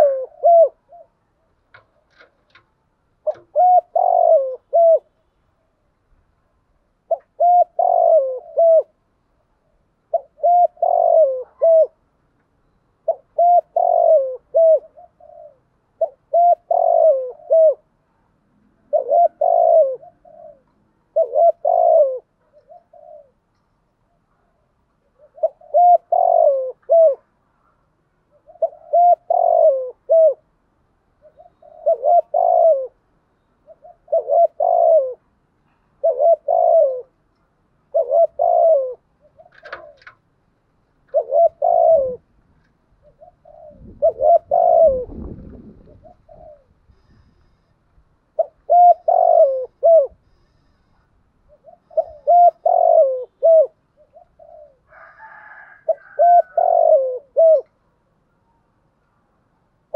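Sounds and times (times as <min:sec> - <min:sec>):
dove cooing: 0:00.0 - 0:02.6, 0:03.2 - 0:05.4, 0:07.0 - 0:12.1, 0:13.0 - 0:18.1, 0:18.7 - 0:23.5, 0:24.1 - 0:27.4, 0:28.2 - 0:30.5, 0:31.1 - 0:40.2, 0:41.0 - 0:47.7, 0:48.3 - 0:57.9.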